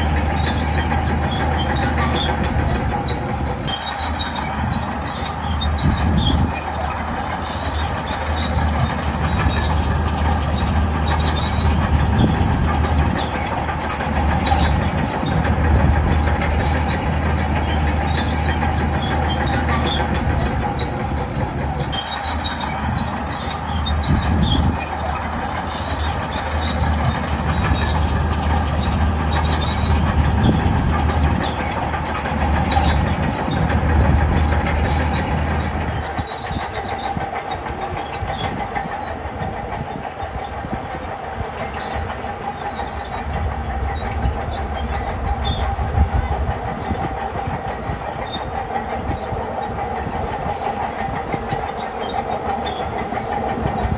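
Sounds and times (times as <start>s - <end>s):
bulldozer diesel engine under load: 0.0s - 53.9s
steel tracks clanking and squealing: 0.0s - 53.9s.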